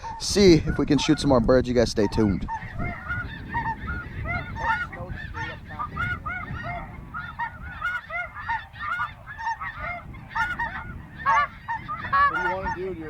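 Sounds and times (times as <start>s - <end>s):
geese honking: 0.0s - 1.4s, 2.0s - 13.0s.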